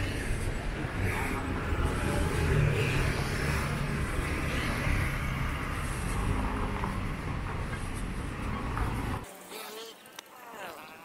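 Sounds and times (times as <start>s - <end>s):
car engines passing: 0.0s - 9.3s
motorbike engines passing: 0.0s - 9.3s
road noise hum: 0.0s - 9.3s.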